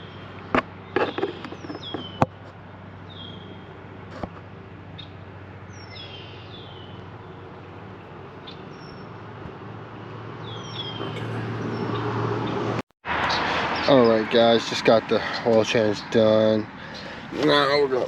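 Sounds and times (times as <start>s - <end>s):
small birds chirping: 0.0s - 12.7s, 13.3s - 18.0s.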